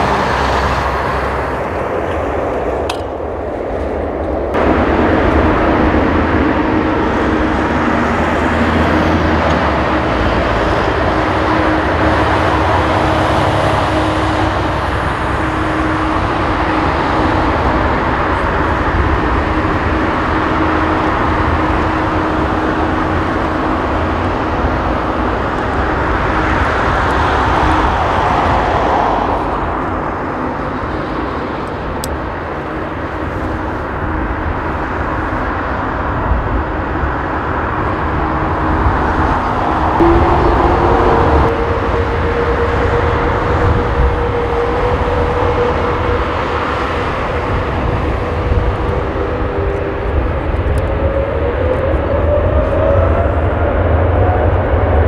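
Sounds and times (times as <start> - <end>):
jet engines taxiing: 0.0 - 55.0.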